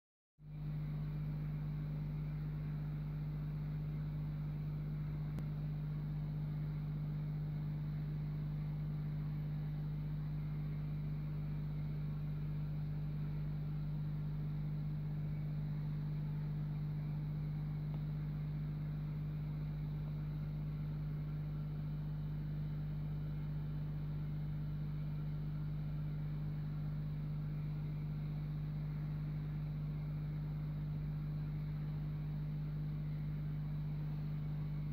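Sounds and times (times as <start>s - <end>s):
aquarium pump humming: 0.4s - 34.9s.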